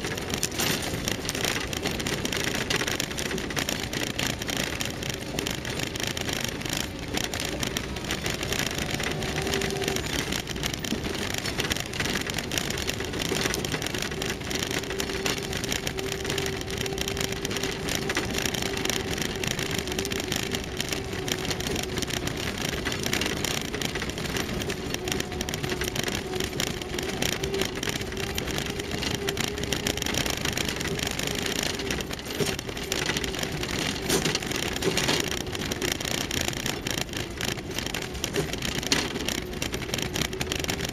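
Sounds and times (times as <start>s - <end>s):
tyres crackling on gravel: 0.0s - 40.9s
vehicle engine whining: 0.0s - 40.9s.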